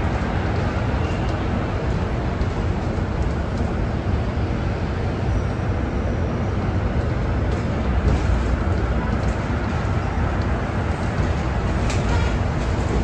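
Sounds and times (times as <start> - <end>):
bus interior road rumble: 0.0 - 13.0.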